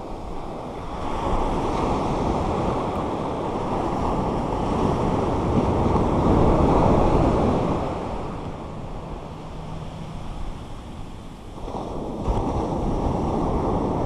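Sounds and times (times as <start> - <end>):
ocean surf breaking: 0.0 - 14.0
wind on microphone: 0.0 - 14.0.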